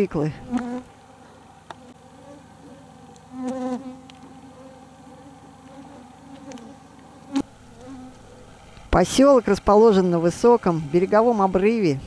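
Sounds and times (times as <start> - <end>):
mosquitoes buzzing: 0.0 - 12.0.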